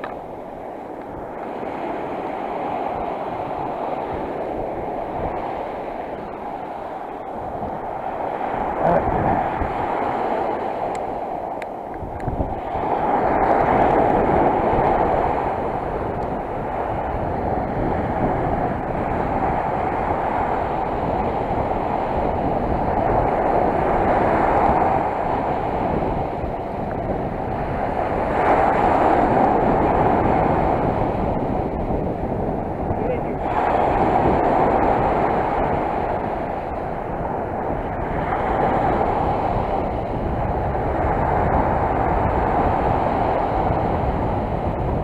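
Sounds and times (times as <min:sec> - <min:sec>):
surf washing on shore: 0:00.0 - 0:45.0
wind on microphone: 0:00.0 - 0:45.0.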